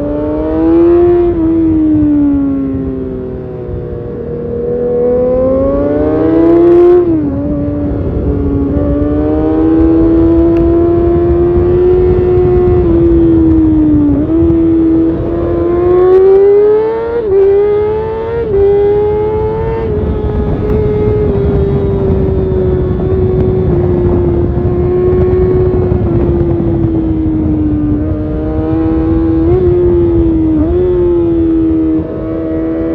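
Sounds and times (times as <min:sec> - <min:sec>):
motorcycle engine at high revs: 0:00.0 - 0:32.9
wind rush: 0:00.0 - 0:32.9.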